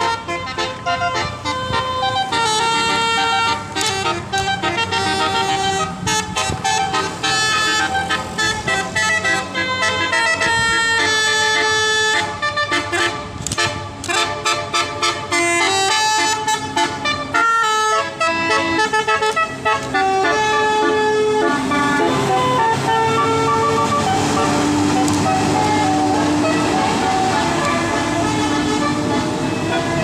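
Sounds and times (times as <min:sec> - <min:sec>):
musical air horn melody: 0:00.0 - 0:30.0.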